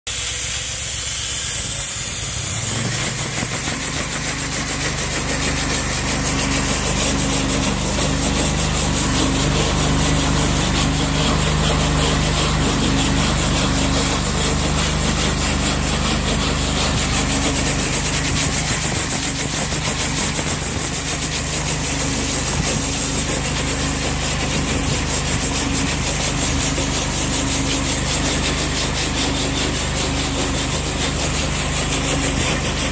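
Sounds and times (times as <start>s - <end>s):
water spray hissing: 0.1s - 32.9s.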